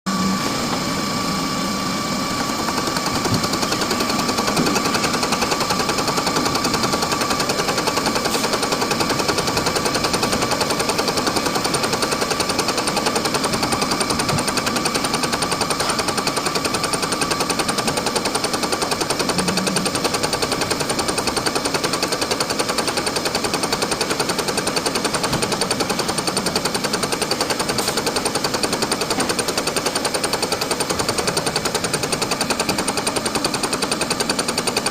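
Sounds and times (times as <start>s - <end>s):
milling machine whine: 0.1s - 34.9s
cutter chattering on metal: 2.2s - 34.9s.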